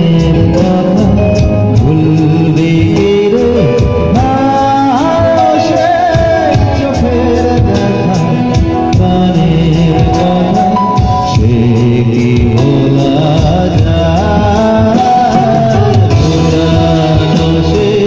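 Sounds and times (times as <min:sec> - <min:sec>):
acoustic guitar: 0:00.0 - 0:18.0
man singing: 0:00.0 - 0:18.0.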